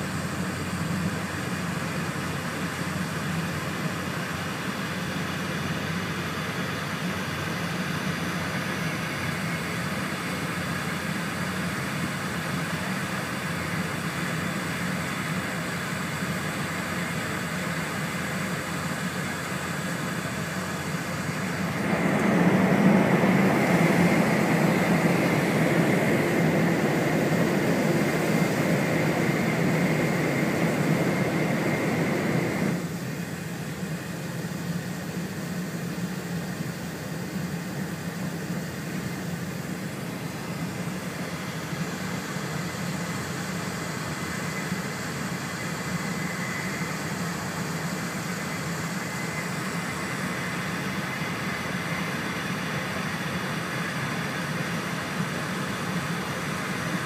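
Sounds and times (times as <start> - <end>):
train cabin rumble and hiss: 0.0 - 57.0.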